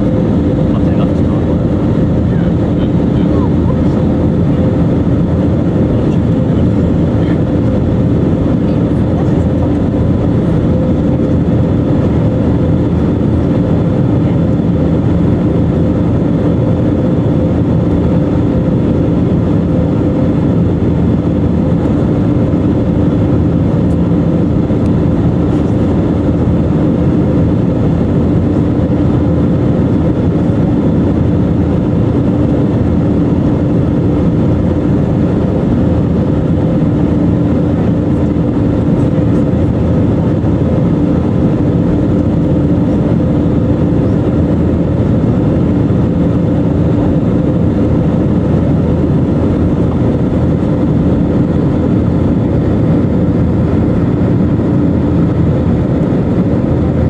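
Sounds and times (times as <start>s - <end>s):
constant low hum: 0.0s - 57.0s
jet engines droning: 0.0s - 57.0s.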